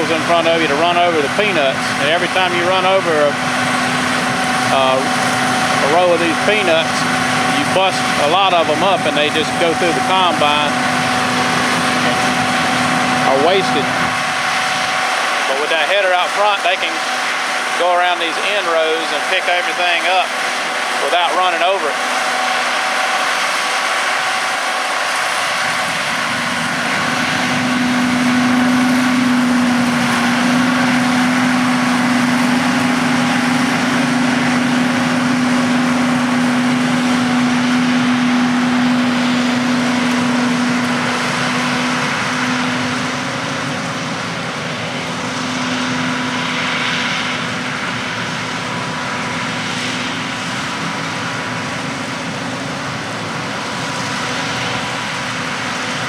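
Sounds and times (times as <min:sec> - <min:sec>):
harvesting machinery running: 0:00.0 - 0:56.0.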